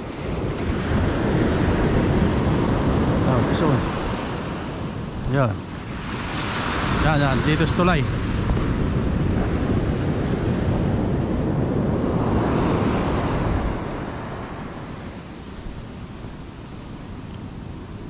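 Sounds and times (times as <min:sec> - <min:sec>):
ocean surf breaking on beach: 0:00.0 - 0:18.0
wind rumbling on microphone: 0:00.0 - 0:18.0.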